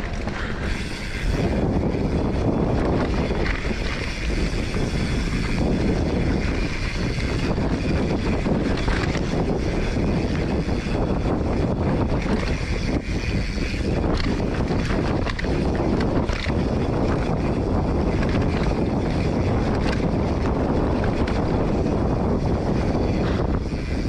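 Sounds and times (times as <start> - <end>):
bike knocks and rattles: 0.0 - 24.0
bike tyre rumble on dirt: 0.0 - 24.0
wind rushing over microphone: 0.0 - 24.0.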